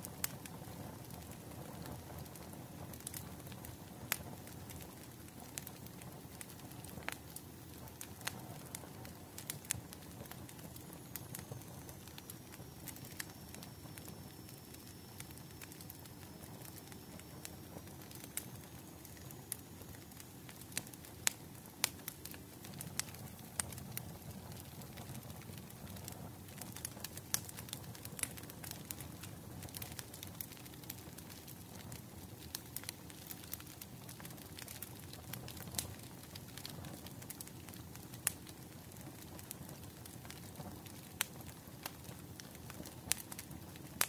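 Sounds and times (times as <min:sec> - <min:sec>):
low rumble of flames: 0:00.0 - 0:44.0
burning wood popping and snapping: 0:03.0 - 0:44.0.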